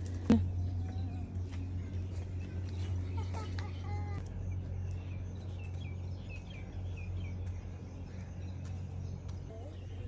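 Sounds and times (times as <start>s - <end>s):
small birds chirping: 0.0s - 10.0s
steady low hum: 0.0s - 10.0s.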